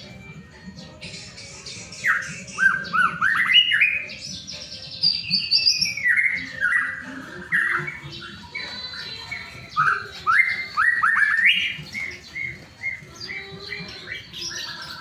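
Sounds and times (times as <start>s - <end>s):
bird singing whistled song: 1.0s - 15.0s.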